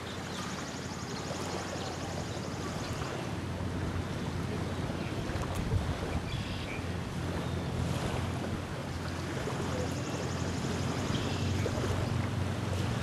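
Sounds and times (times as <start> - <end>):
waves lapping on sandy shore: 0.0 - 13.0
wind rumbling on microphone: 1.3 - 13.0.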